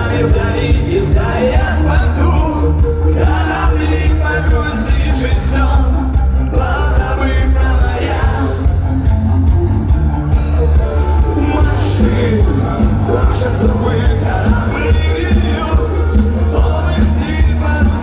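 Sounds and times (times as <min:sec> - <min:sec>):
person singing: 0:00.0 - 0:08.8, 0:11.3 - 0:18.0
punk rock band playing live: 0:00.0 - 0:18.0.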